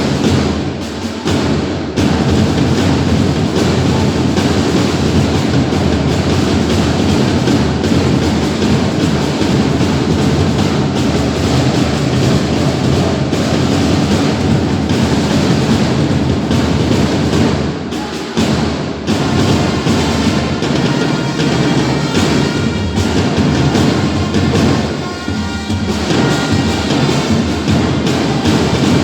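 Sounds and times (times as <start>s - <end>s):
loud music with heavy drums: 0.0s - 29.0s.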